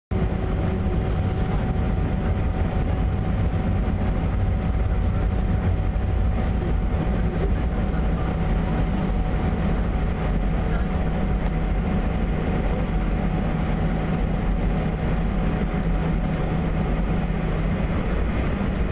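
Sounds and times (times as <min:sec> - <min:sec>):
jet engine cabin rumble: 0:00.1 - 0:18.9
thin steady whine: 0:00.1 - 0:18.9.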